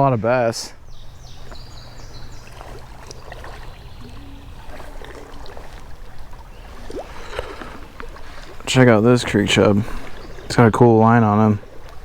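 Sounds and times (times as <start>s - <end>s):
creek water running and splashing: 0.8s - 12.0s.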